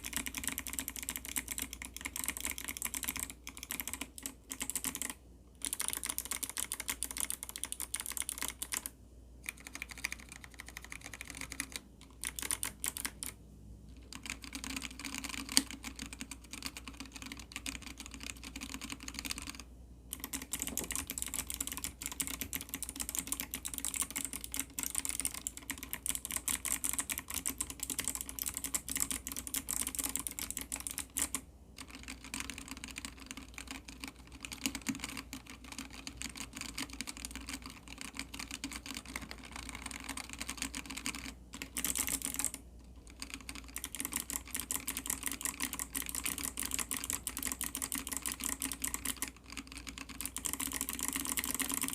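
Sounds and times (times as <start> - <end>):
mechanical keyboard typing: 0.0 - 51.9.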